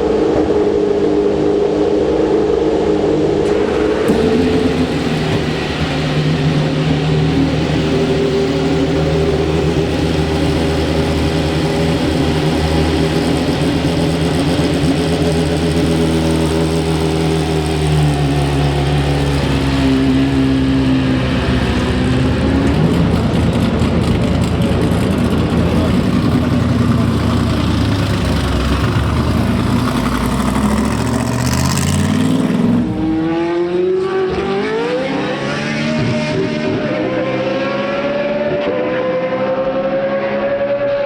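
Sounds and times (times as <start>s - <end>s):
racing car engine running: 0.1s - 40.8s.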